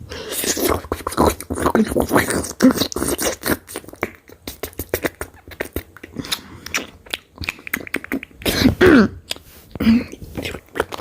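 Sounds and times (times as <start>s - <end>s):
person chewing food: 0.1s - 11.0s.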